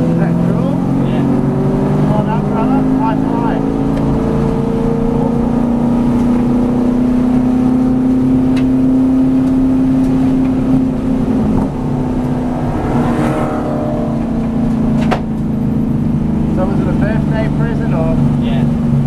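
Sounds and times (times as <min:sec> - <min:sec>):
car engine heard from inside: 0:00.0 - 0:19.0.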